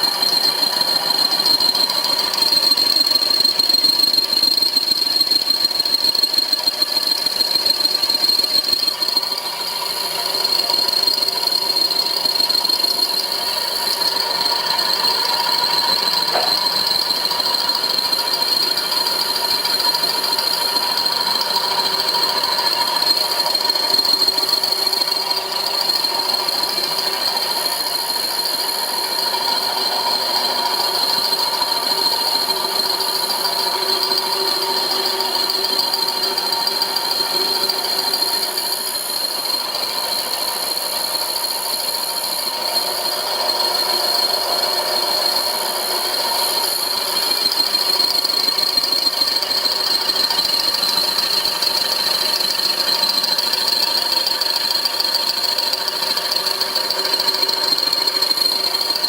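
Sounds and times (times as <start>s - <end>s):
high-pitched whine: 0.0s - 59.0s
milling machine running: 0.1s - 59.0s.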